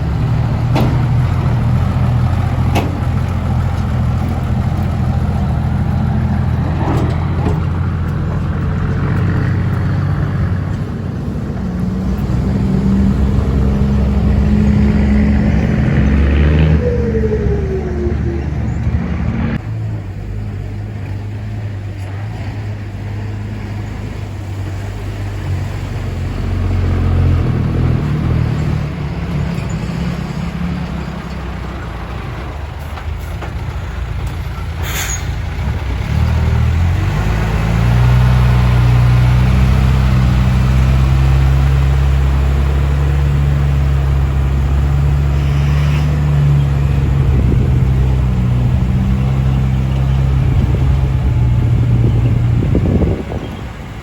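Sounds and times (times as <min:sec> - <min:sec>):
dump truck diesel engines: 0:00.0 - 0:54.0.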